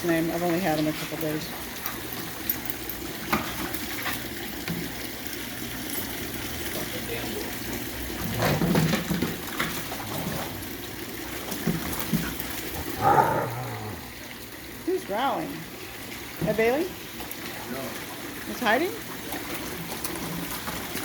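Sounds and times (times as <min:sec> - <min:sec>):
water trickling: 0:00.0 - 0:21.0.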